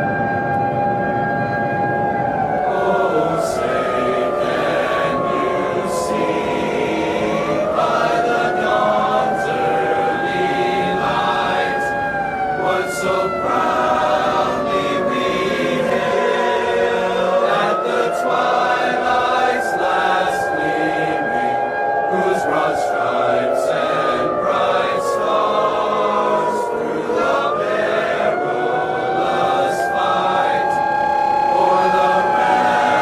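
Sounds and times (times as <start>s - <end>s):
wailing two-tone siren: 0.0s - 33.0s
choral singing: 2.6s - 33.0s.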